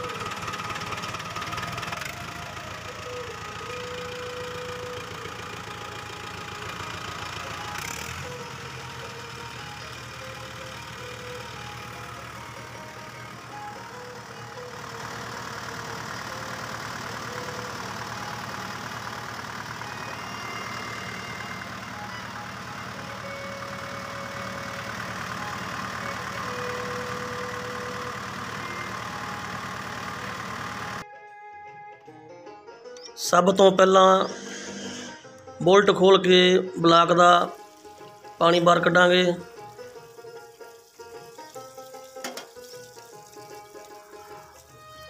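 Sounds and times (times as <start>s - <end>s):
tractor diesel engine idling: 0.0s - 31.0s, 33.0s - 45.0s.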